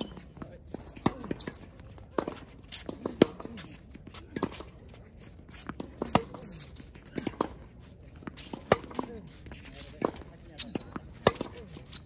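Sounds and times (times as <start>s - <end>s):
rackets striking tennis ball: 0.0s - 4.8s, 5.6s - 9.2s, 9.8s - 12.0s
tennis ball bouncing: 0.0s - 4.8s, 5.5s - 9.2s, 9.9s - 11.9s.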